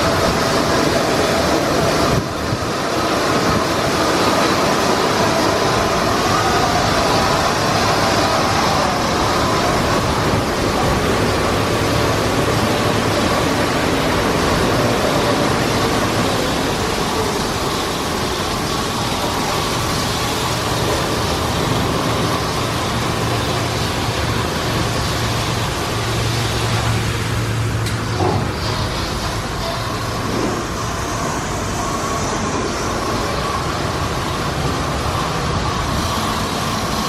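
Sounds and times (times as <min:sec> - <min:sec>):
automatic car wash running: 0:00.0 - 0:37.0.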